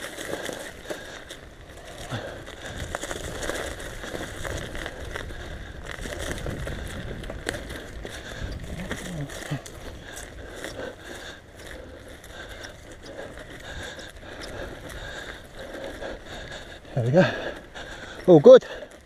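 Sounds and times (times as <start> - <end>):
bike clicks and rattles: 0.0 - 19.0
bike tyres on dirt: 0.0 - 19.0.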